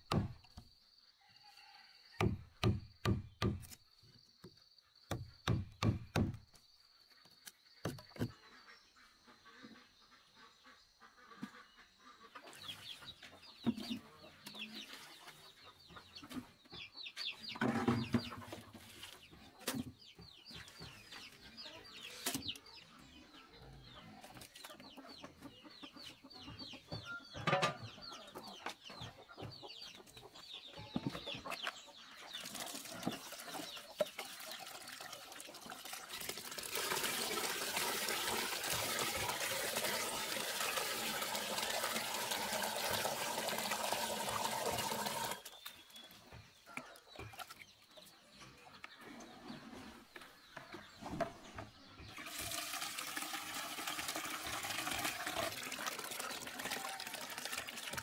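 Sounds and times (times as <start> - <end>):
chickens clucking and cheeping: 0.0 - 2.7, 6.8 - 35.9, 37.5 - 52.3.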